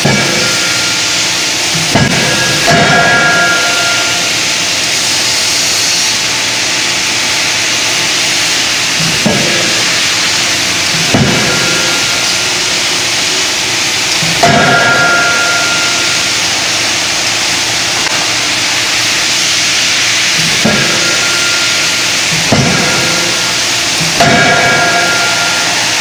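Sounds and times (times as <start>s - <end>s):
forging hammer blows ringing: 0.0s - 5.0s, 9.0s - 26.0s
forge machinery hissing: 0.0s - 26.0s.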